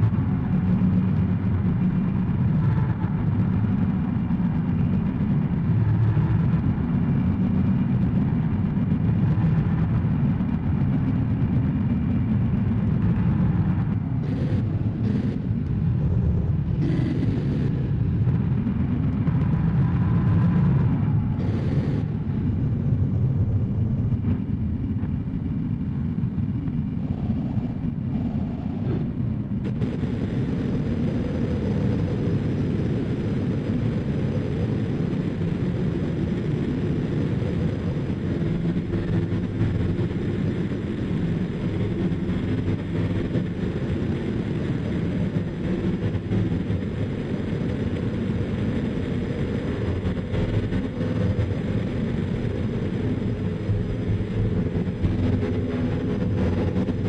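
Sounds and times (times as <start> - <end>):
harsh noise drone rumble: 0.0 - 57.0.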